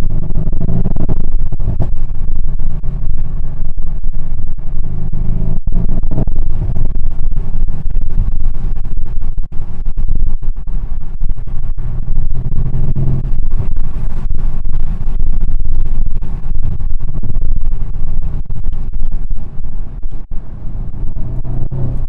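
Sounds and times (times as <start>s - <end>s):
car engine under hard throttle: 0.0s - 22.0s.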